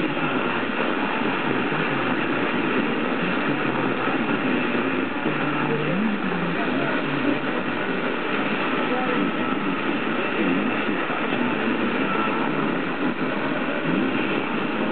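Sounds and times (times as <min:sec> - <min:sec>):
faint radio programme: 0:00.0 - 0:14.9
radio static hiss: 0:00.0 - 0:14.9.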